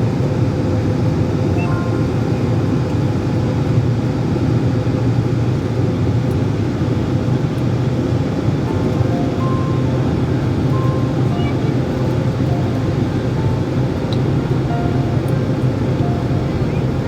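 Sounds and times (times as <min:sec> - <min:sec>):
airliner cabin engine rumble: 0:00.0 - 0:17.0
faint constant hum: 0:00.0 - 0:17.0.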